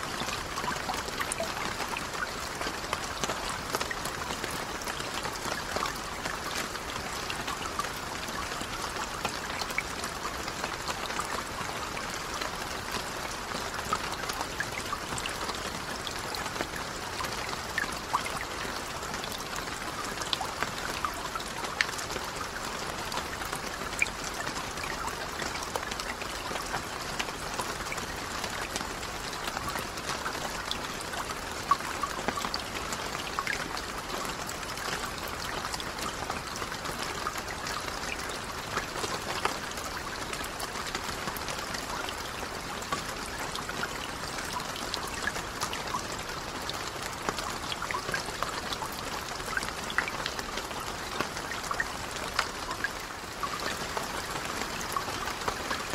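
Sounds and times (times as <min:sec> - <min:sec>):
rain falling on lake: 0:00.0 - 0:55.9.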